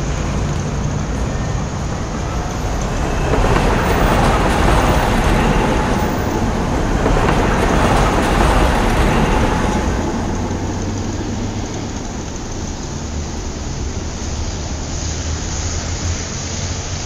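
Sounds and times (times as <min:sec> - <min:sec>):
passing vehicles rumble: 0:00.0 - 0:17.0.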